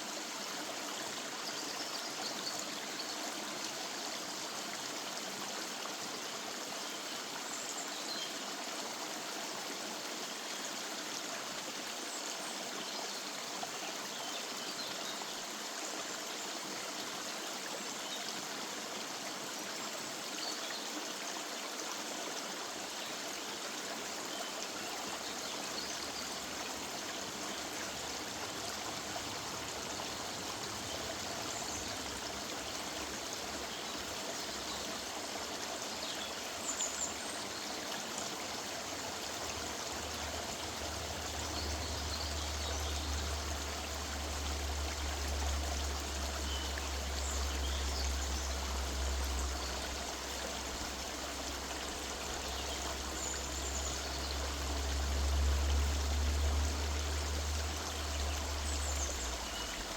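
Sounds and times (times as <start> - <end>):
river water running: 0.0 - 59.9.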